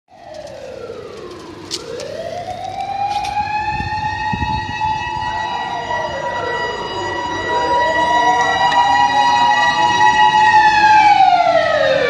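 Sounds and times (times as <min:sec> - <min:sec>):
wailing motor siren: 0:00.1 - 0:12.0.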